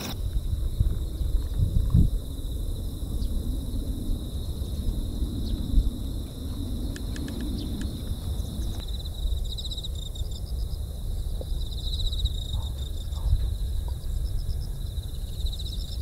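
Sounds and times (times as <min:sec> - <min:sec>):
insects buzzing and trilling: 0:00.0 - 0:16.0
wind rumbling on microphone: 0:00.0 - 0:16.0.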